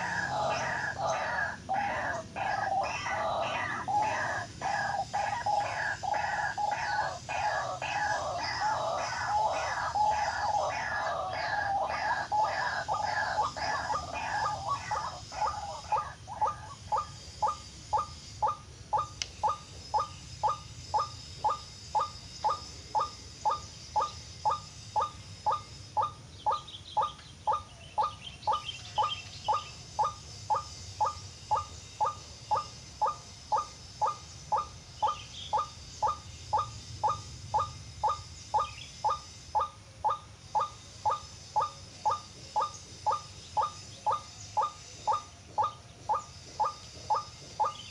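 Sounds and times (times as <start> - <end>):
faint higher chirps: 0.0 - 47.9.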